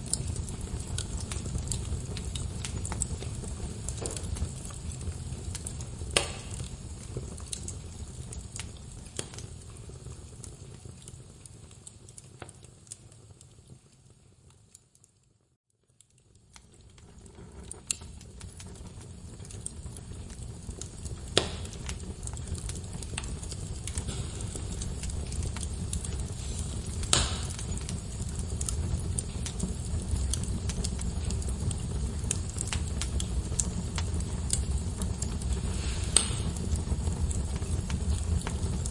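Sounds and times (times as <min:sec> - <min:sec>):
fire flames rumbling: 0:00.0 - 0:15.1, 0:15.8 - 0:38.9
logs popping and crackling: 0:00.0 - 0:15.1, 0:15.8 - 0:38.9.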